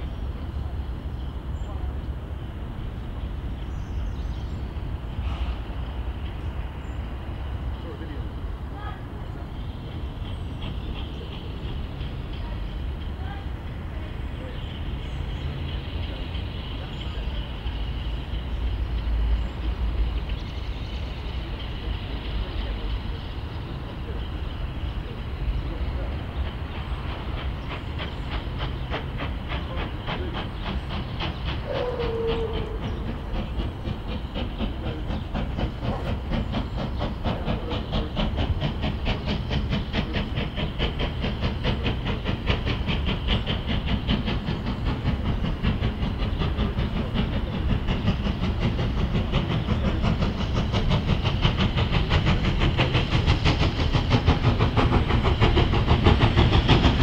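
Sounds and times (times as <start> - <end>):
steam hiss: 0.0 - 57.0
steam locomotive exhaust beating: 0.0 - 57.0.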